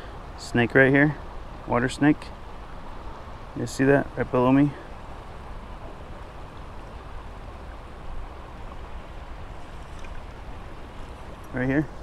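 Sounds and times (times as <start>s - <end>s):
river current rushing: 0.0s - 12.0s.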